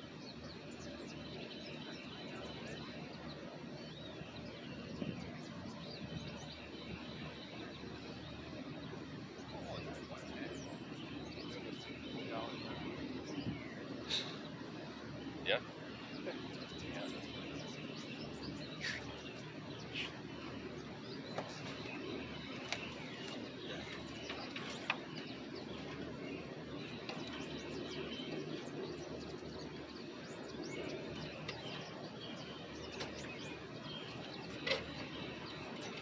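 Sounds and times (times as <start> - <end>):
birds chirping: 0.0 - 36.0
low background noise: 0.0 - 36.0.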